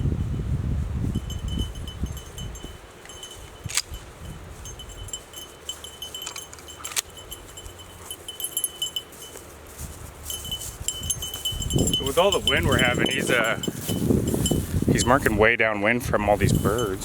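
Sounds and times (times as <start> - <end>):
wind buffeting microphone: 0.0 - 9.1, 9.7 - 17.0
small bell tinkling: 1.0 - 15.3, 16.5 - 17.0.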